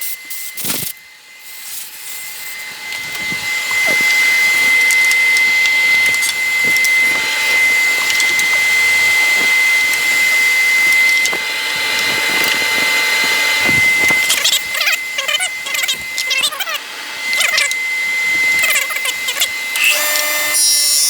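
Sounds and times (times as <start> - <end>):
high saw whine: 0.0 - 21.0
table saw cutting wood: 0.0 - 21.0.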